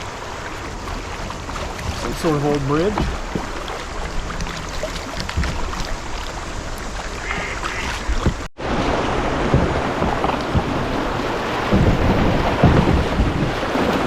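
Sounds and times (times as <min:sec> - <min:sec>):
river water splashing: 0:00.0 - 0:14.0
wind buffeting microphone: 0:00.0 - 0:14.0.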